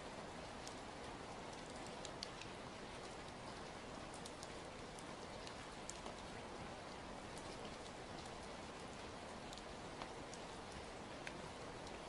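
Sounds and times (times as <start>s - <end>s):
rain falling on wet street: 0.0s - 12.0s
ticks of raindrops: 0.0s - 12.0s.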